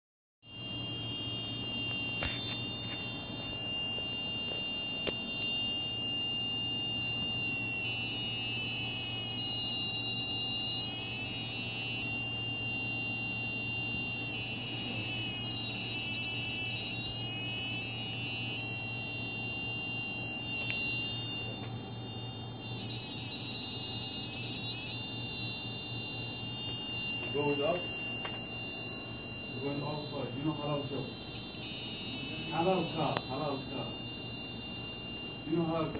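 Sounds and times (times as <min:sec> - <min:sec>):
electronic buzzer whine: 0:00.4 - 0:35.9.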